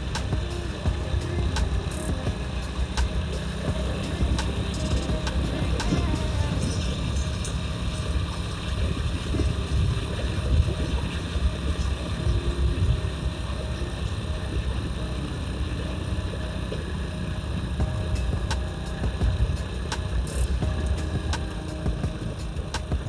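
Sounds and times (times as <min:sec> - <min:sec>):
motorcycle running: 0:00.0 - 0:23.0
wind buffeting microphone: 0:00.0 - 0:23.0.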